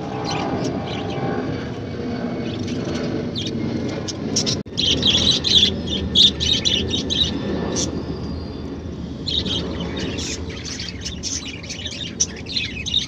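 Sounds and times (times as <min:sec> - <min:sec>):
small birds chirping: 0:00.0 - 0:01.6, 0:02.3 - 0:13.0.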